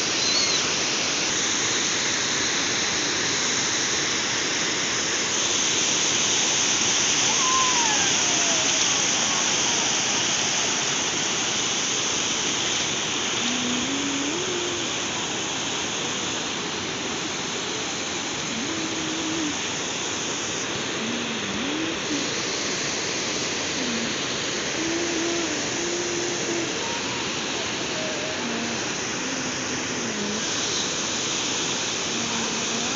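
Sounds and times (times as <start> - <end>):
turbulent flowing water: 0.0 - 32.9.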